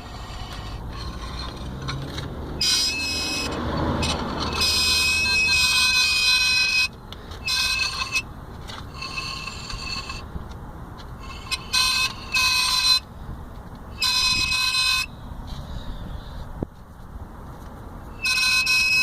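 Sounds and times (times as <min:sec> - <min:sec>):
brake disc squealing: 0:00.0 - 0:10.3, 0:11.0 - 0:13.1, 0:13.9 - 0:16.4, 0:18.1 - 0:19.0.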